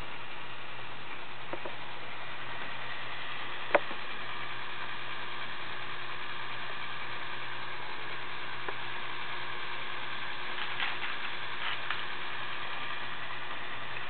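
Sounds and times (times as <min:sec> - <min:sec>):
toy motor and gears whirring: 0:00.0 - 0:14.0.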